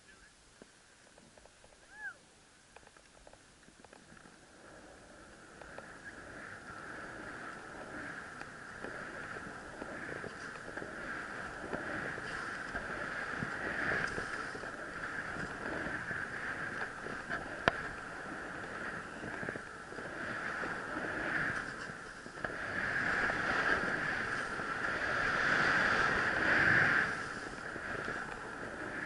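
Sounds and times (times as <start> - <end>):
wind on camera: 0.0 - 29.0
skis swishing through powder snow: 3.2 - 29.0.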